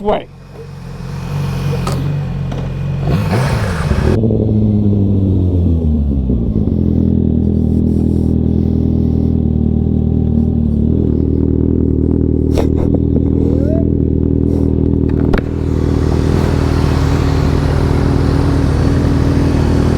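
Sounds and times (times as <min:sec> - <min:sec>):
motorcycle engine slowing: 0:00.0 - 0:19.9.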